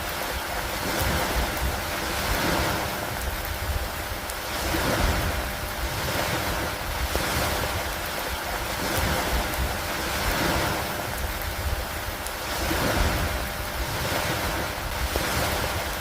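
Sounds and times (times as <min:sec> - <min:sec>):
rain and wind over water: 0:00.0 - 0:16.0.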